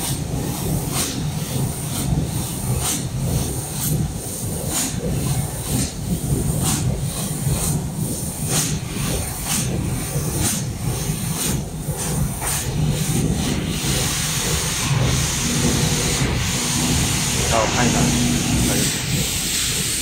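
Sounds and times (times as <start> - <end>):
laser cutter low hum: 0.0 - 20.0
laser cutting hiss bursts: 0.0 - 20.0.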